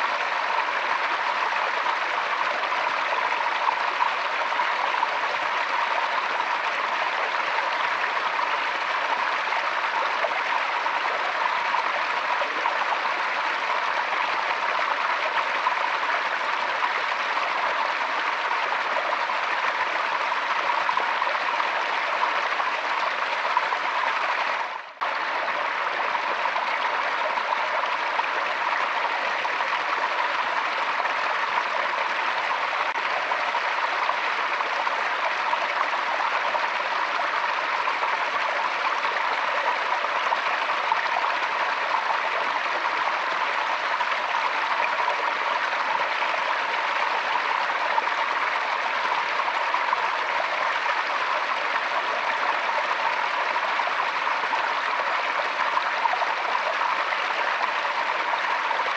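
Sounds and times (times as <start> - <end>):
stream flowing: 0.0 - 58.9.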